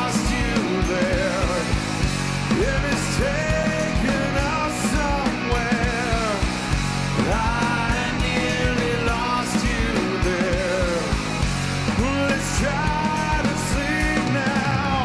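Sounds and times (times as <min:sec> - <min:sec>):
man singing: 0:00.0 - 0:15.0
rock band playing live: 0:00.0 - 0:15.0.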